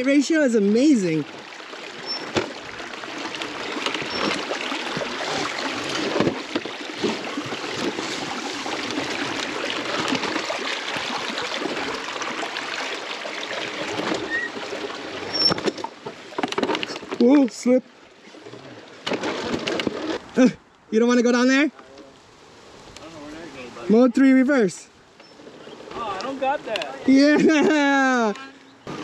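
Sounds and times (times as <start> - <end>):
creek water rushing and splashing: 0.0 - 29.0.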